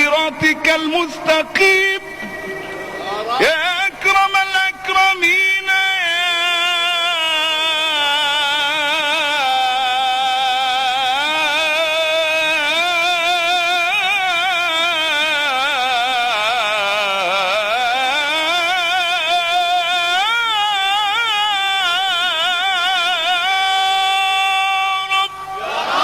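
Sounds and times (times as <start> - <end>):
man chanting solo: 0.0 - 25.5.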